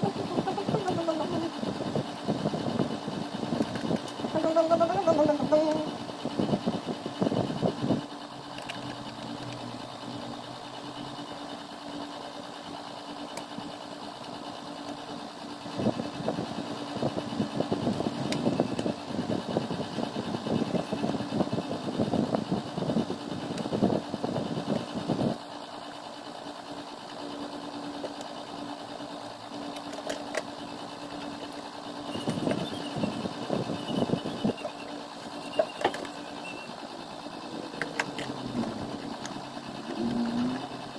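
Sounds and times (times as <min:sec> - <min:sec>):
disc drive whirring: 0:00.0 - 0:40.9
game console humming: 0:00.0 - 0:40.9.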